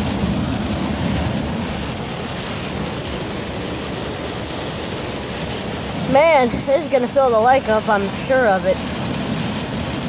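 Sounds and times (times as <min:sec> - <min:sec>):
hard rain: 0:00.0 - 0:10.0
strong wind: 0:00.0 - 0:10.0.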